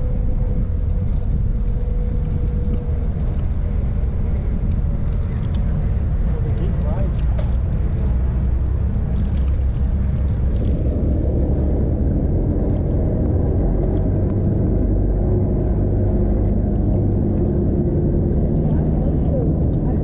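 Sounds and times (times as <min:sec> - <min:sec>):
bicycle road noise: 0:00.0 - 0:20.0
wind buffeting microphone: 0:00.0 - 0:20.0.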